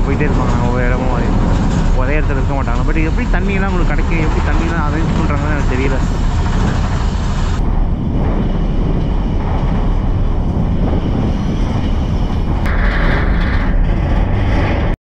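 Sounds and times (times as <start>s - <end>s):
train rumble and clatter: 0.0s - 15.0s.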